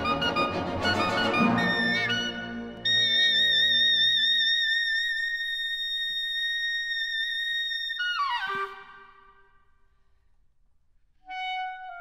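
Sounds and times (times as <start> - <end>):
clarinet playing: 0.0 - 9.5, 11.2 - 12.0.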